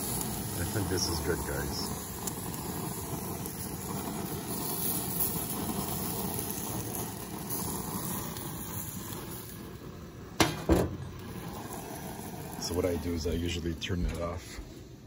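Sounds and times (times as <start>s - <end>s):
gas grill burners hissing: 0.0s - 15.0s.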